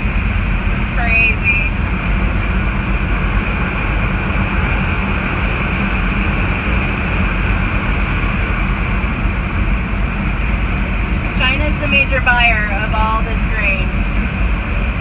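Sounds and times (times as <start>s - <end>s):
truck engine rumble from cab: 0.0s - 15.0s.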